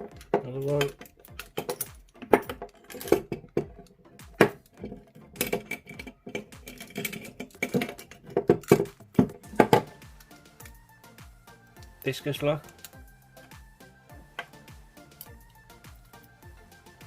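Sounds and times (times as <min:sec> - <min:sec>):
metal padlocks clicking and clinking: 0:00.0 - 0:10.8, 0:11.8 - 0:16.6.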